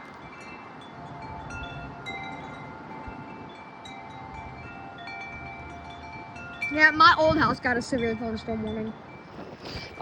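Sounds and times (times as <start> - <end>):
wind chimes ringing: 0.0 - 10.0
wind rumble on microphone: 0.0 - 10.0.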